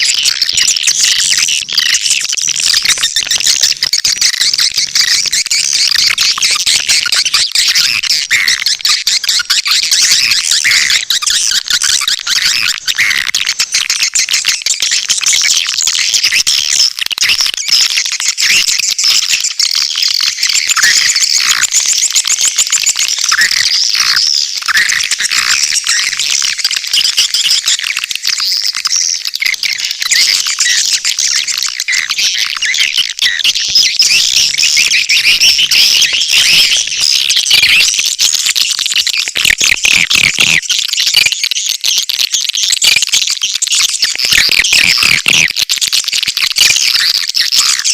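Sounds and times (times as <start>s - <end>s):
swiftlets chirping and twittering: 0.0s - 47.9s.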